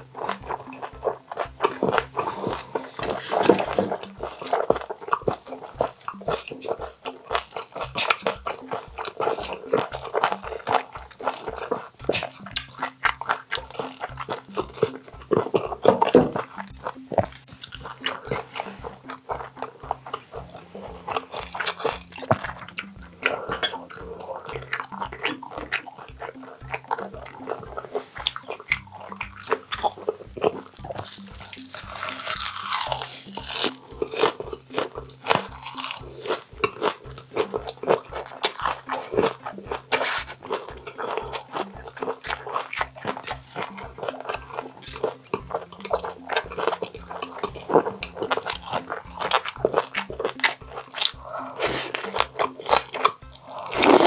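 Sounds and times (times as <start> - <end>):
background music with beat: 0.0 - 54.0
wet chewing and smacking: 0.0 - 54.0.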